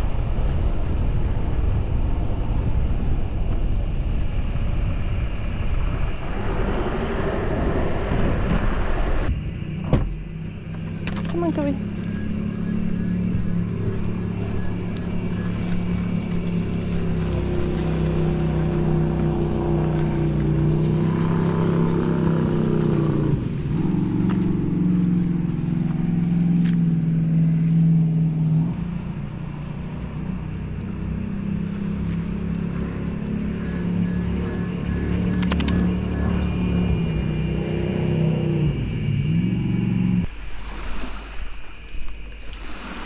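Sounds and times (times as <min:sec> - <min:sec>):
vehicle engine running: 0:00.0 - 0:40.4.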